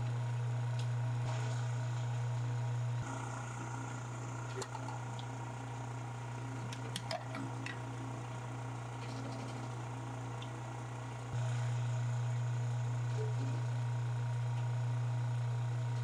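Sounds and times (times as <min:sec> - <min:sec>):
pug mill motor hum: 0:00.0 - 0:16.0.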